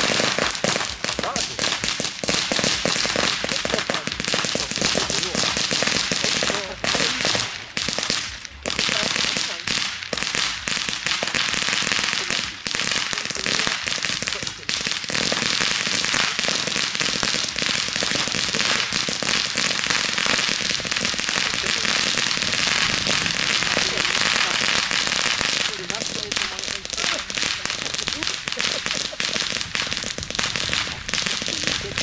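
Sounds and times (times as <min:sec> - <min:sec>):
firework fountain crackling: 0:00.0 - 0:32.0.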